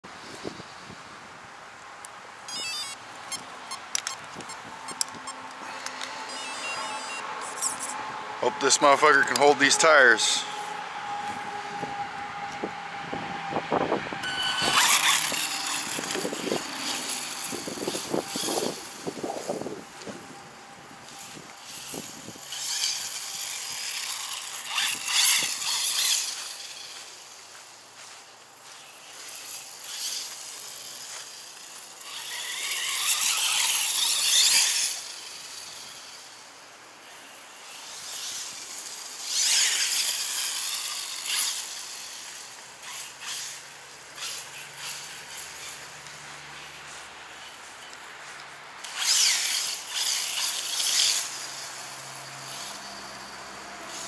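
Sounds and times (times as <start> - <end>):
toy car electric motor whining: 2.4 - 27.6, 28.7 - 46.8, 48.8 - 54.0
tires hissing over grass: 4.6 - 54.0.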